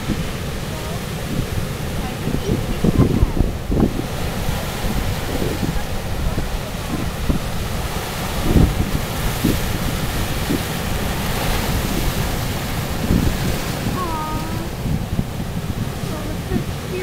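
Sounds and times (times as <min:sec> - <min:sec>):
surf breaking on rocks: 0:00.0 - 0:17.0
wind buffeting microphone: 0:00.0 - 0:17.0.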